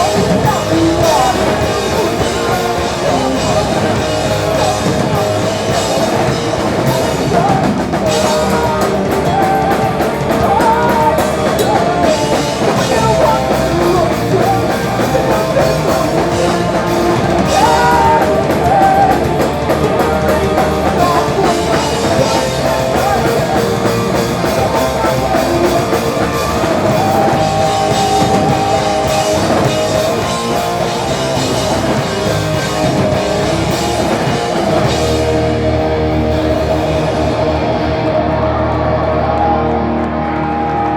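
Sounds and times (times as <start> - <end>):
distorted electric guitars: 0.0 - 40.9
drum kit: 0.0 - 40.9.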